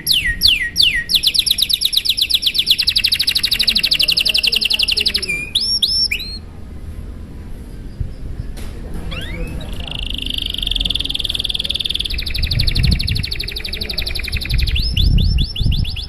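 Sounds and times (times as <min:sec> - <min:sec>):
canary singing: 0:00.0 - 0:06.4, 0:08.1 - 0:16.0.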